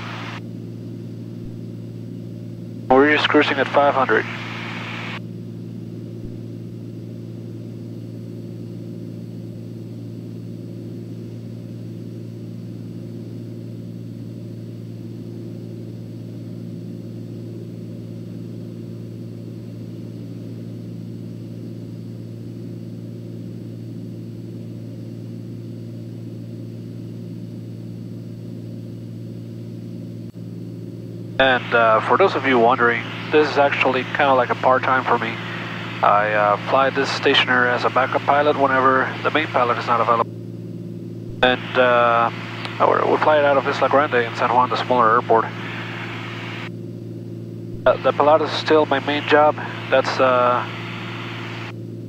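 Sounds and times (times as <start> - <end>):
airplane engine and propeller droning: 0.0 - 52.0.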